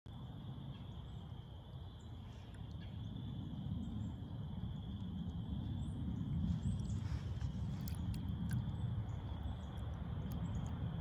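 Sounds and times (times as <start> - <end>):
insects calling: 0.1 - 11.0
low rumbling background: 0.1 - 11.0
faint bird chirps: 0.6 - 10.9.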